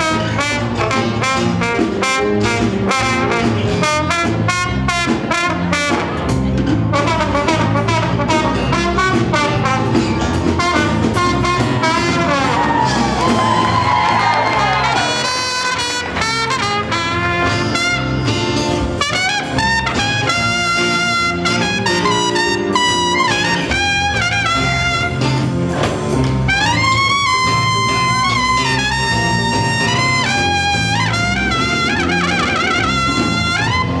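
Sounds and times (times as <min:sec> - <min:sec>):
trumpet jazz solo: 0:00.0 - 0:25.7, 0:26.4 - 0:34.0
bass guitar: 0:00.0 - 0:34.0
drums: 0:00.0 - 0:34.0.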